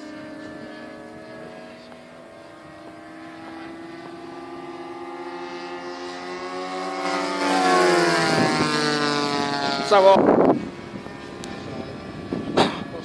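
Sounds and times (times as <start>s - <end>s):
model airplane engines flying by: 0.0s - 13.0s.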